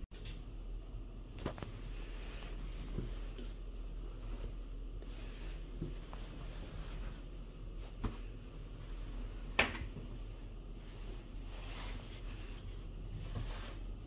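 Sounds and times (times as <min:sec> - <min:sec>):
clothing rustling: 0:01.3 - 0:14.0.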